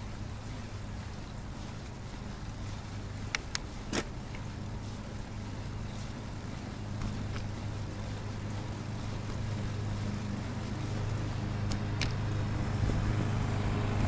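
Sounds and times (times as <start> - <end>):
bicycle rolling on paved road: 0.0 - 14.0
wind: 0.0 - 14.0.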